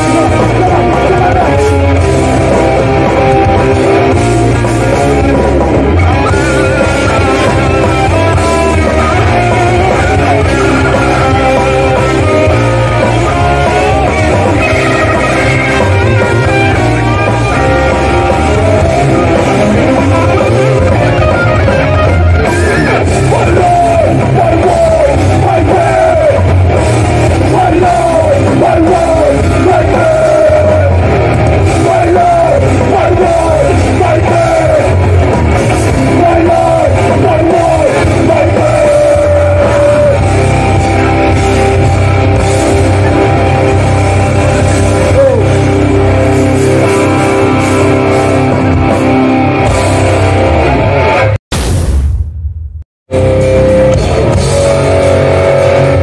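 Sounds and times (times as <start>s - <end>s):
bass: 0.0s - 56.0s
distorted electric guitars: 0.0s - 56.0s
drums: 0.0s - 56.0s.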